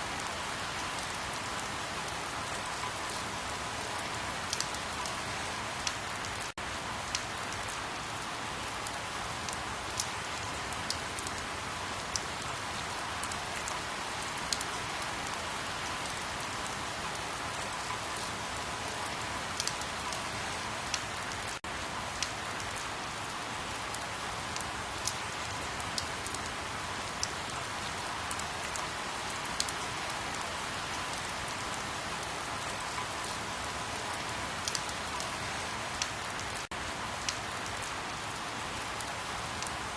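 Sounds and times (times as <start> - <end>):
steady rain falling: 0.0 - 39.9
sharp raindrops ticking: 0.1 - 39.9.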